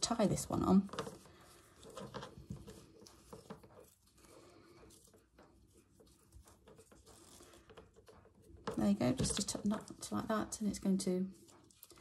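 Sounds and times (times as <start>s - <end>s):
soft rustling: 0.0s - 12.0s.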